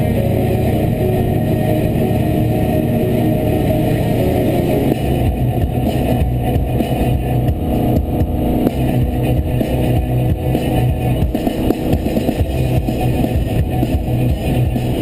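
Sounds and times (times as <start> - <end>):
car engine running steadily: 0.0 - 15.0
road noise: 0.0 - 15.0.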